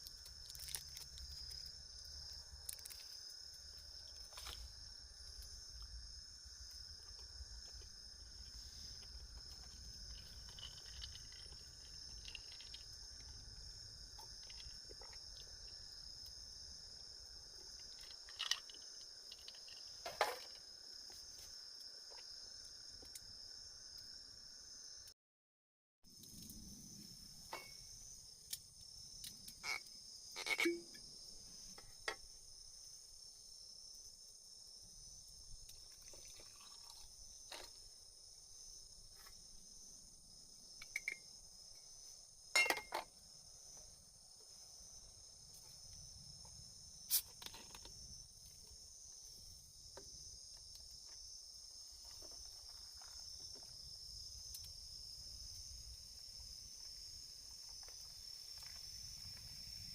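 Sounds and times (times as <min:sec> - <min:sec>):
insects chirping: 0:00.0 - 0:25.1, 0:26.1 - 0:59.9.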